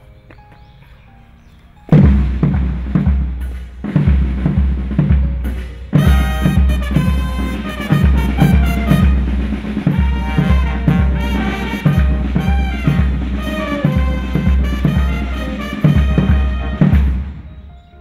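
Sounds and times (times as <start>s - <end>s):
steady drum beat: 1.9s - 17.5s
brass band playing a march: 1.9s - 17.6s.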